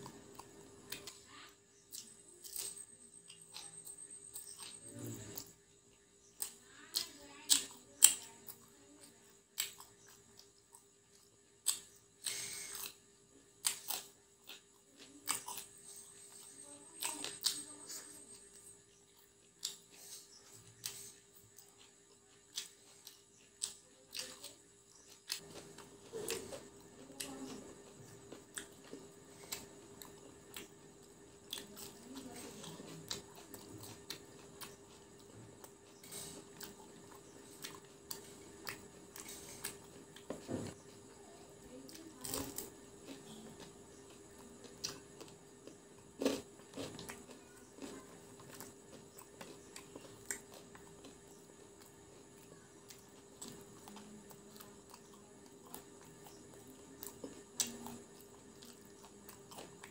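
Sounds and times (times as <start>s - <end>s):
crunchy chewing: 0.0s - 59.9s
faint steady hum: 0.0s - 59.9s.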